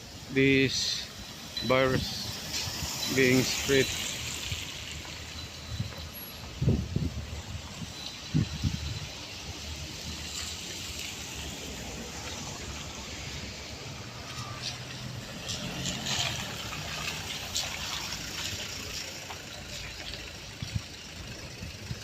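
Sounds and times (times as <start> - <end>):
vehicle engines humming: 0.0 - 22.0
wet traffic: 0.0 - 22.0.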